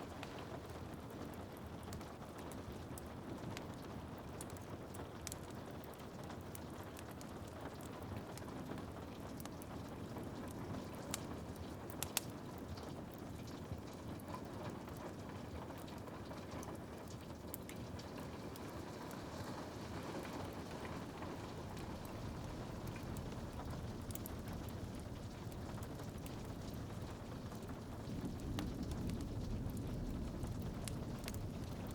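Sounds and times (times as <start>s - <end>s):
rain on window glass: 0.0s - 31.9s
wood fire crackling and popping: 0.0s - 31.9s.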